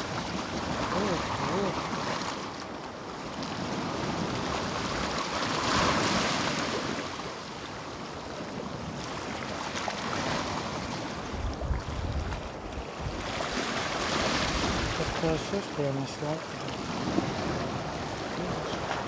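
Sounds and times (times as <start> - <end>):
waves washing over rocks: 0.0 - 19.0.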